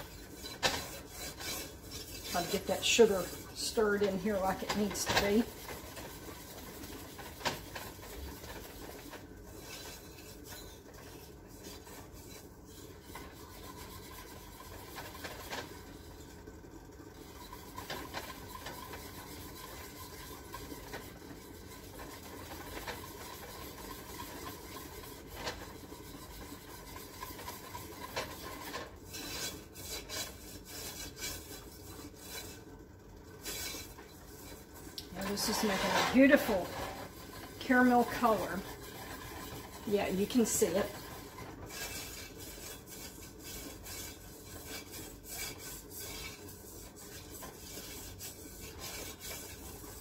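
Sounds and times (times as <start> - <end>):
whisk scraping a saucepan: 0.0 - 50.0.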